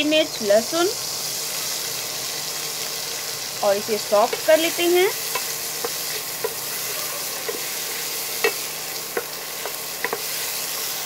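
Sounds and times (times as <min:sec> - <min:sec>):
vegetables sizzling in butter: 0:00.0 - 0:11.0.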